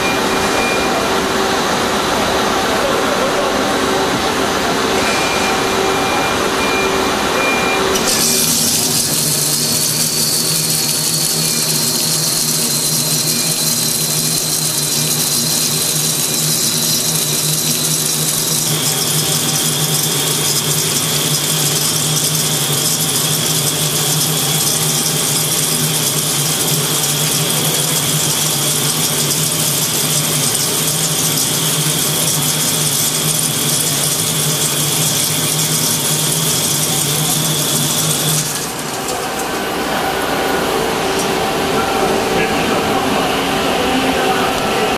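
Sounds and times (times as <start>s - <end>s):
machine hum: 0.0s - 44.9s
thin high whine: 0.0s - 44.9s
lathe cutting hiss: 7.9s - 44.8s.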